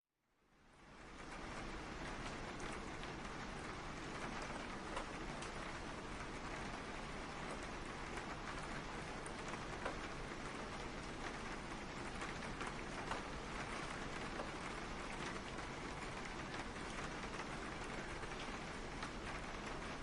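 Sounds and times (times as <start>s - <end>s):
steady rain hiss: 0.3s - 20.0s.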